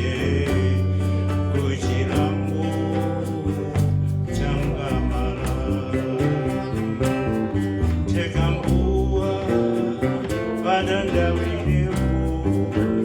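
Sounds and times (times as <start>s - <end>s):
bass: 0.0s - 13.0s
plucked guitar: 0.0s - 13.0s.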